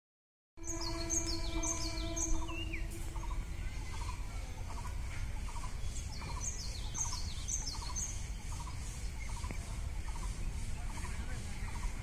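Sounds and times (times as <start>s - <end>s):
high falling bird calls: 0.6s - 12.0s.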